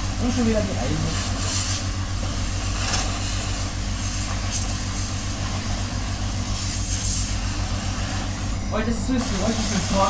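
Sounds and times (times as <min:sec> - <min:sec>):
pressure washer spraying: 0:00.0 - 0:10.0
pulsing mechanical rumble: 0:00.0 - 0:10.0.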